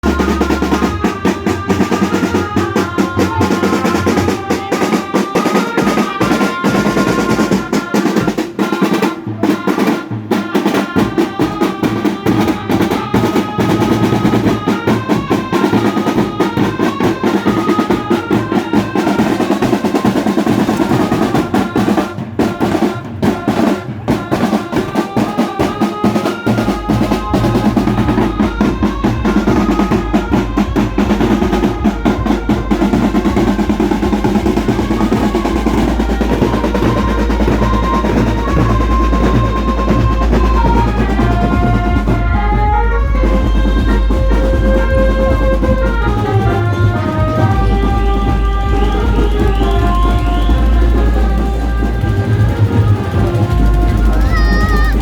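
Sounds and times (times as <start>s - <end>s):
loud drum-heavy music: 0.0s - 55.0s.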